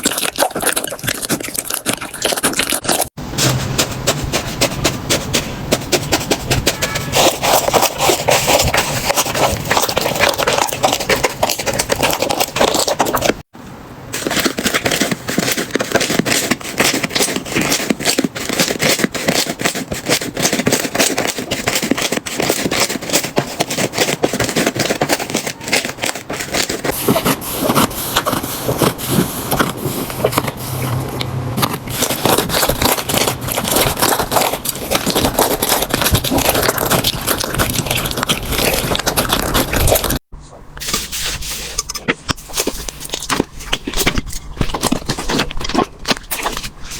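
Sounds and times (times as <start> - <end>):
slime squeezed crackling: 0.0 - 13.5, 14.2 - 46.9.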